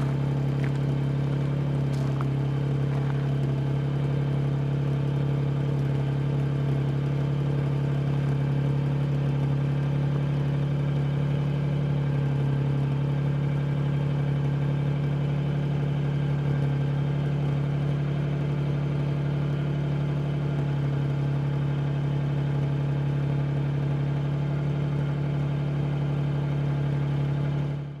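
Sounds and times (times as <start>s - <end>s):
car engine idling: 0.0s - 27.6s.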